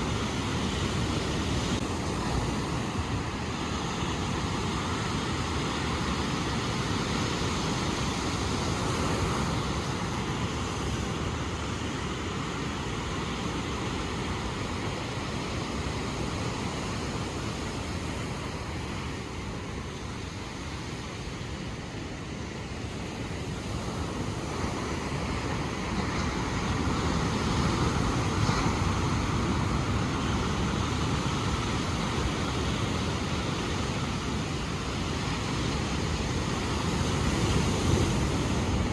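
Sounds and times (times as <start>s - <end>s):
ocean surf washing in: 0.0s - 38.9s.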